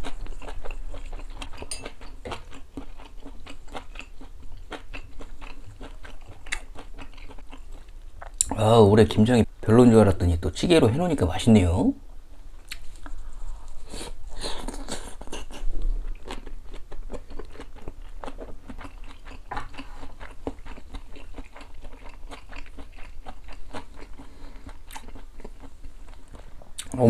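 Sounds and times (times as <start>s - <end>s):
person chewing food: 0.0s - 8.6s, 12.6s - 27.0s.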